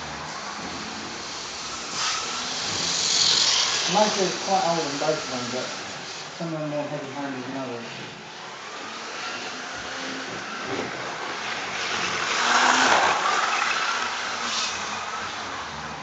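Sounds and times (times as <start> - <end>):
model train hiss on track: 0.0 - 16.0.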